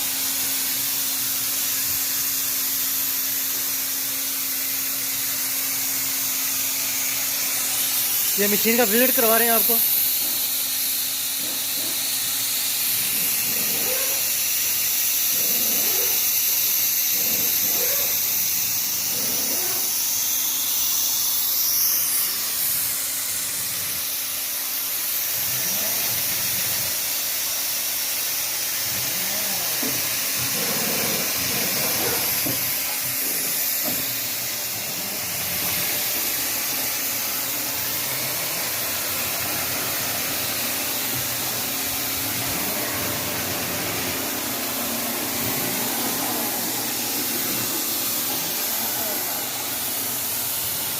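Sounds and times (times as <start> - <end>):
compressed air hissing: 6.6 - 25.9, 29.4 - 50.9.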